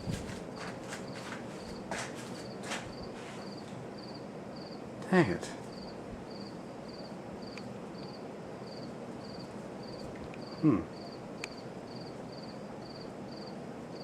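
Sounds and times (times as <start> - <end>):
ceiling fan air rush: 0.0 - 14.0.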